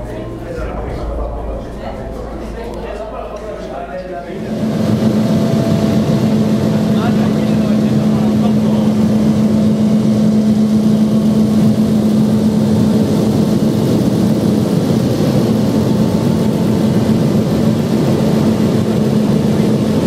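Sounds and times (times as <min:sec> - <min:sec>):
generator machine hum: 0:00.0 - 0:20.0.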